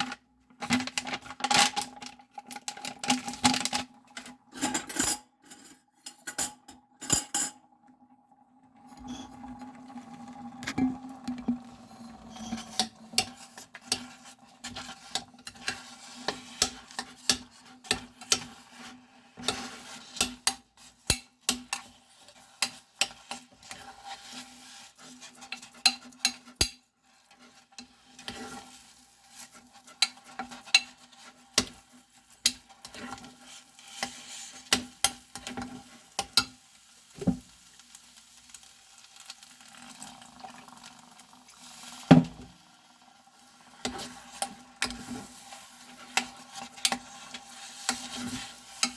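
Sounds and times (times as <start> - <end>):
faint sizzle: 7.3 - 48.9
utensil stirring in a pan: 8.8 - 48.9.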